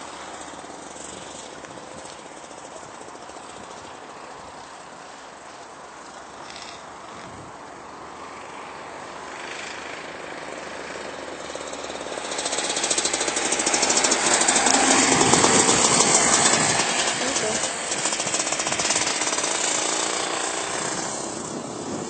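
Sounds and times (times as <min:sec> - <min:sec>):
kart engine approaching: 0:00.0 - 0:22.0.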